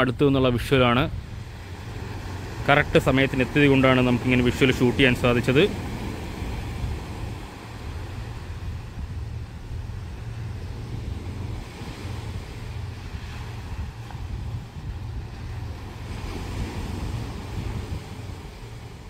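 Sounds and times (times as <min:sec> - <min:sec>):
sea waves: 0:00.0 - 0:19.0
wind buffeting microphone: 0:00.0 - 0:19.0.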